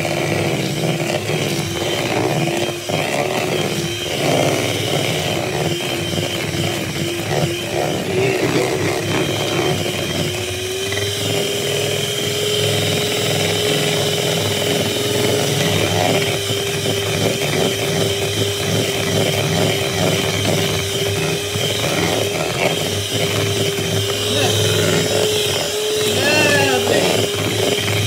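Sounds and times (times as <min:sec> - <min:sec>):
electric hand mixer whining: 0:00.0 - 0:28.0.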